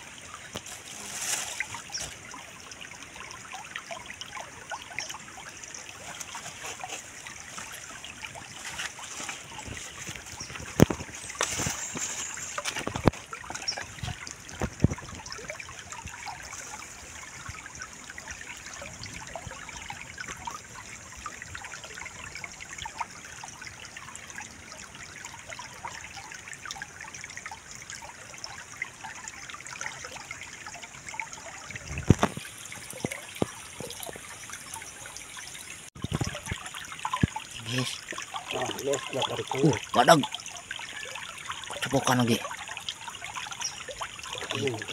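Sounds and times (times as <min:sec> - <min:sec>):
stream trickling over rocks: 0:00.0 - 0:44.9.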